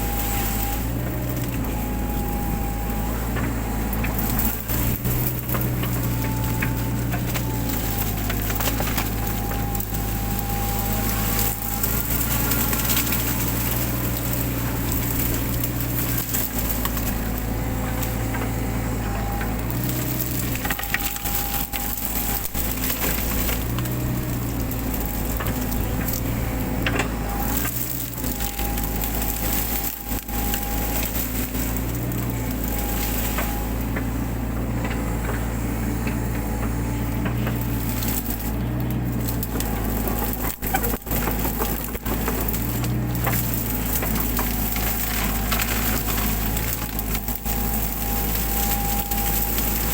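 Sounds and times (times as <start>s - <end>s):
branches cracking and splintering: 0.0s - 49.9s
excavator engine running: 0.0s - 49.9s
hydraulic whine: 0.0s - 49.9s.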